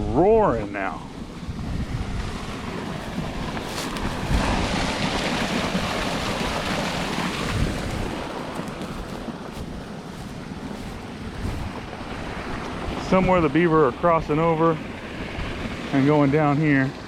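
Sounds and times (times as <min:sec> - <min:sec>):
water rushing through culvert: 0:00.0 - 0:17.0.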